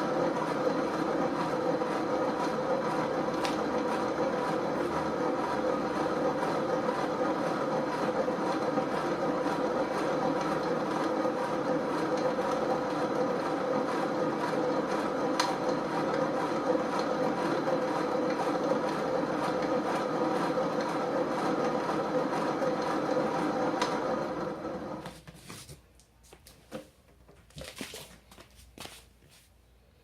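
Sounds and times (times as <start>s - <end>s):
exercise bike mechanical rumble: 0.0s - 25.2s.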